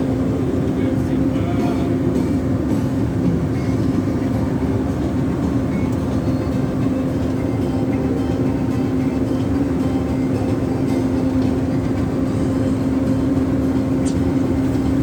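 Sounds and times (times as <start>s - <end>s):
crane engine humming: 0.0s - 15.0s.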